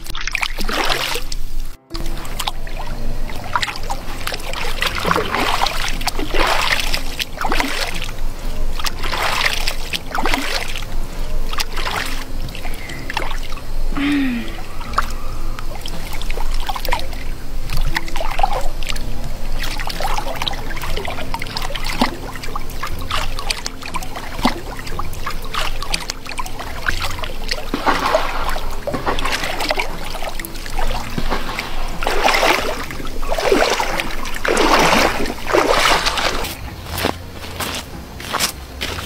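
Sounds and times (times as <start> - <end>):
water splashing and trickling: 0.0 - 39.0.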